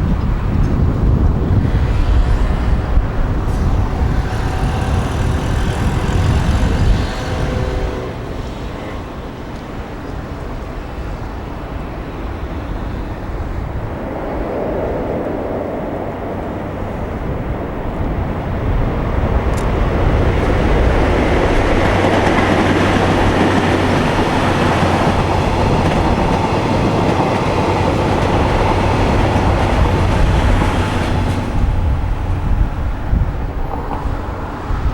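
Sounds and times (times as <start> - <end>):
passenger train rolling past: 0.0 - 34.9.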